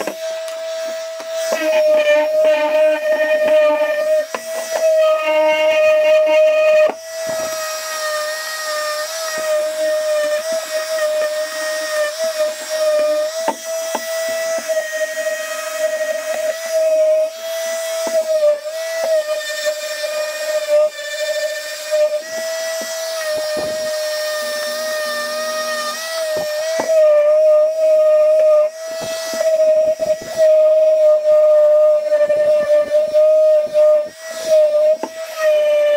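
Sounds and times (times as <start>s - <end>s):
electric sander whining: 0.0s - 35.9s.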